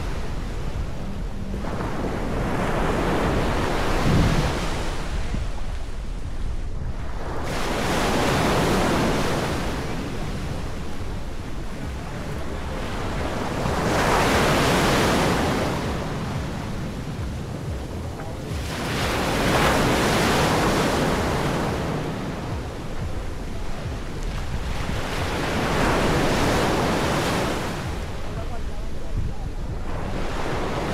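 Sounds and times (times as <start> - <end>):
low wind rumble on microphone: 0.0 - 30.9
surf breaking on a beach: 0.0 - 30.9.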